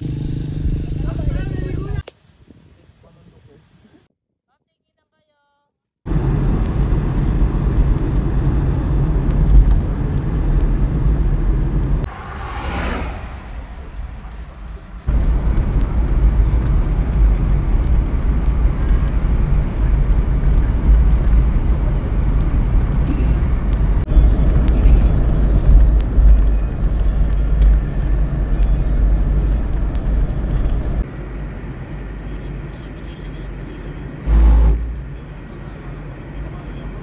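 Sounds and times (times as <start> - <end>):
car cabin road rumble: 6.1 - 37.0.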